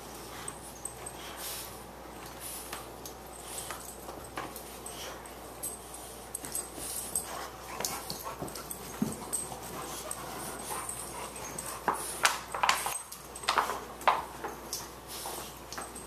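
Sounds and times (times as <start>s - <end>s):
dog play noises: 0.0s - 16.0s
dogs scuffling: 0.0s - 16.0s.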